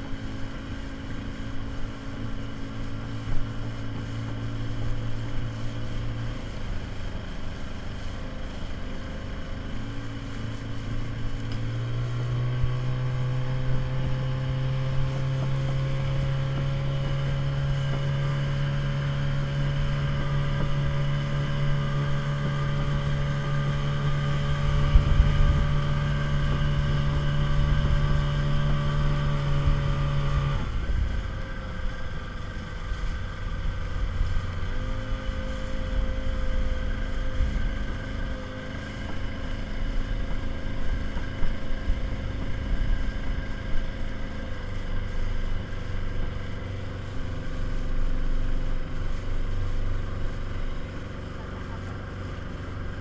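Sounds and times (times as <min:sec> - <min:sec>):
outboard motor running: 0:00.0 - 0:53.0
water noise: 0:00.0 - 0:53.0
wind: 0:00.0 - 0:53.0.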